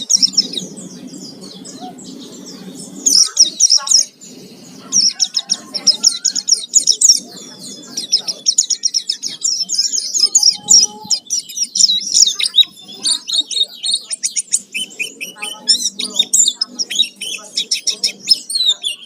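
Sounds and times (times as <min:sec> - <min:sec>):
bird singing high trills: 0:00.0 - 0:19.0.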